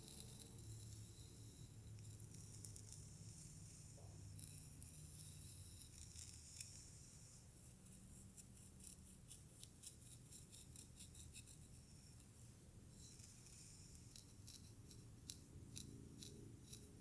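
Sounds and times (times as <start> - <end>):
tool stroking through hair: 0.0 - 17.0.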